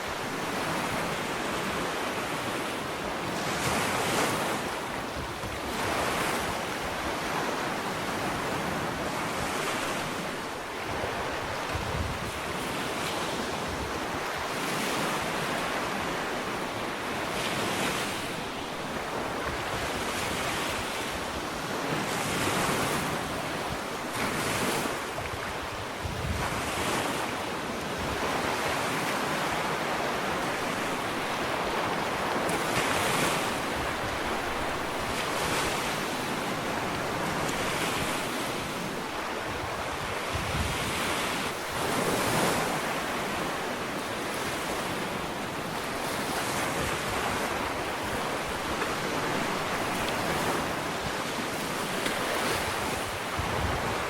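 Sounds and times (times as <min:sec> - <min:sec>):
ocean waves washing onto beach: 0:00.0 - 0:54.0.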